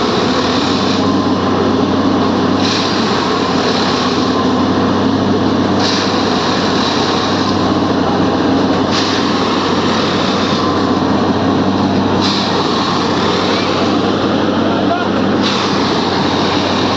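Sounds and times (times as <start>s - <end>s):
machine engine hum: 0.0s - 16.9s.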